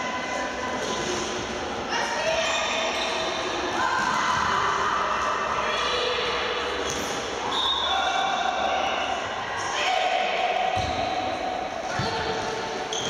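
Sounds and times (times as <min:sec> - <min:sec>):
voices in a hall: 0:00.0 - 0:13.0.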